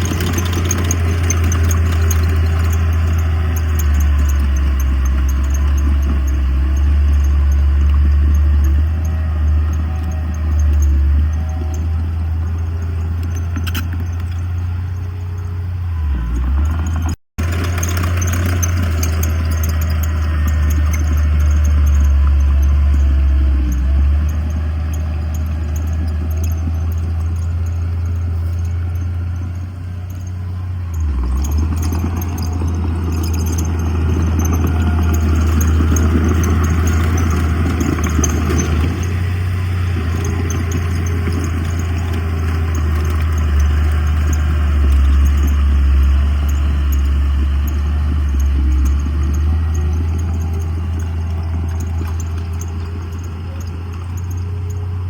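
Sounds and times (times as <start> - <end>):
diesel earthmoving machinery engine: 0.0 - 55.0
mechanical clatter: 0.0 - 55.0.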